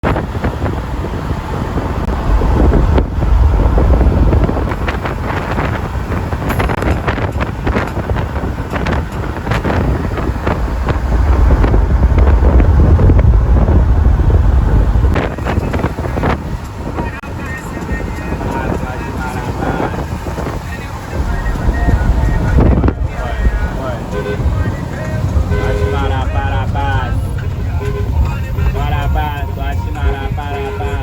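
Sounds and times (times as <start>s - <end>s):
heavy low rumble: 0.0s - 31.0s
vehicle noise: 0.0s - 31.0s
wind buffeting microphone: 0.0s - 31.0s.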